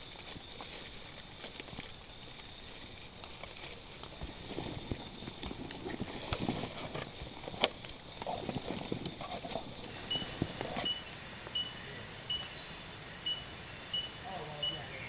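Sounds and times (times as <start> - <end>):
scuffs and rustles on forest floor: 0.0 - 12.7.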